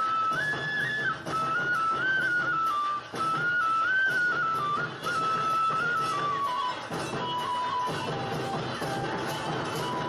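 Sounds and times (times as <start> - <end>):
flute melody: 0.0 - 10.0.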